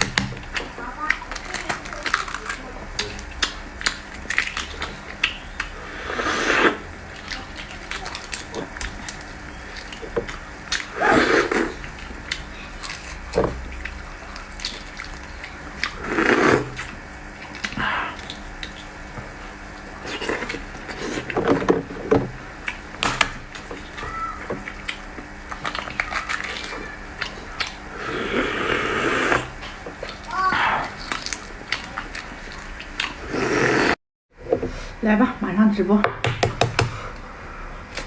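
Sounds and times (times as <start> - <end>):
person chewing: 0.0 - 21.6, 23.5 - 34.0.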